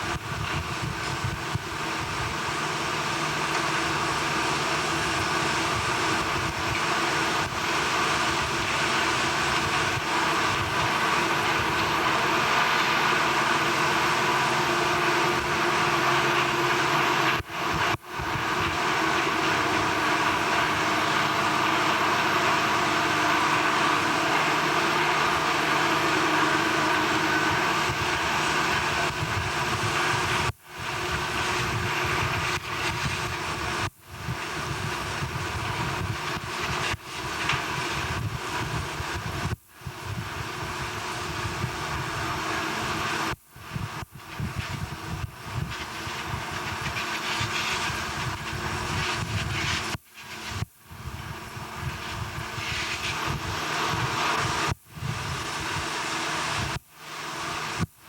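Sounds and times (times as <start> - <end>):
heavy industrial machinery drone: 0.0 - 57.8.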